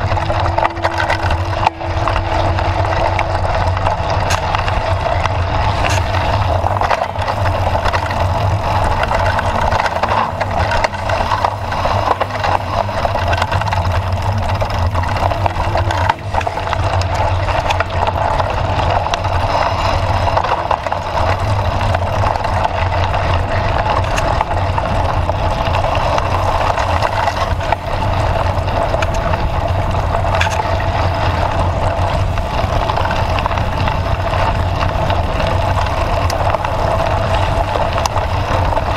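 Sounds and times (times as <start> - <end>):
bike rattles and knocks: 0.0 - 38.9
bike tyres rumbling on dirt: 0.0 - 38.9.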